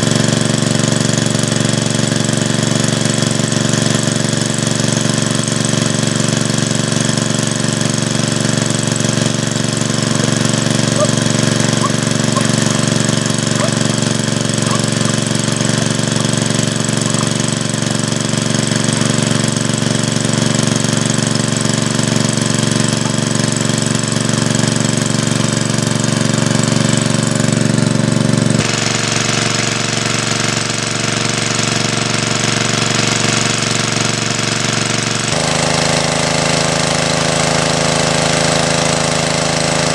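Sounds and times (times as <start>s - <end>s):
small motor running: 0.0s - 39.9s.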